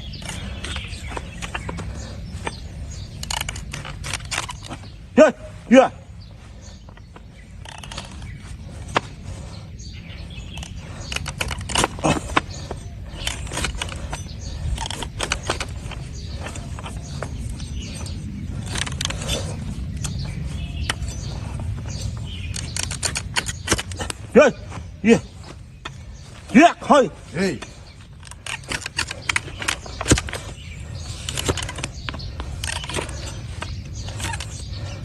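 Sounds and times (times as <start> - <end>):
blade cutting and scraping hoof: 0.0 - 5.0, 6.6 - 24.3, 27.4 - 35.0
steady low rumble: 0.0 - 35.0.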